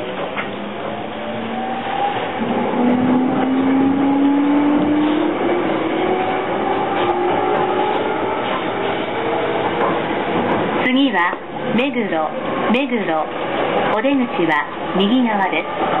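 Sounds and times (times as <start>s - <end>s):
train traction motors whining: 0.0s - 16.0s
wheel-on-rail rumble: 0.0s - 16.0s.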